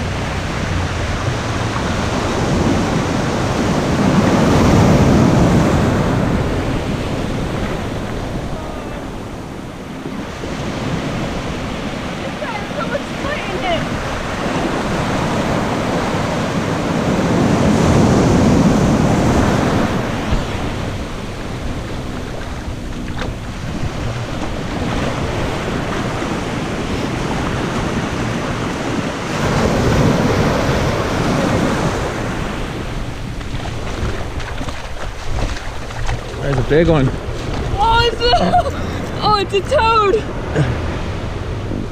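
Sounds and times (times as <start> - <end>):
ocean surf breaking: 0.0 - 41.9
wind buffeting microphone: 0.0 - 41.9.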